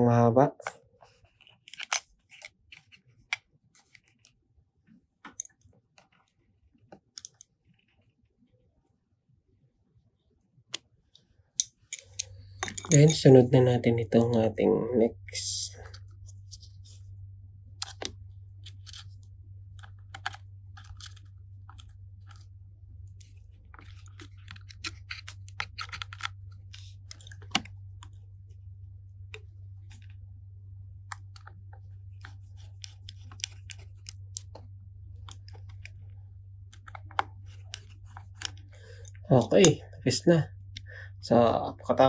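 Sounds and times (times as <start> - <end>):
steady low hum: 8.2 - 42.0.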